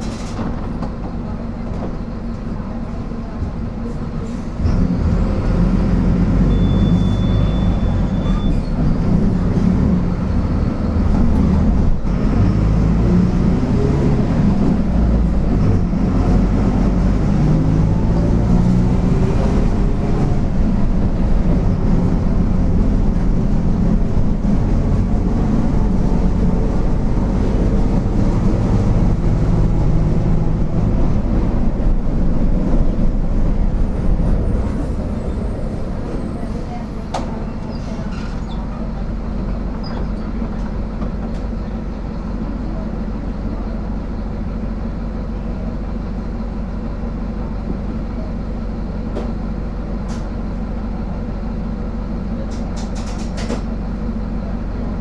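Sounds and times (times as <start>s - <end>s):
bus diesel engine drone: 0.0s - 55.0s.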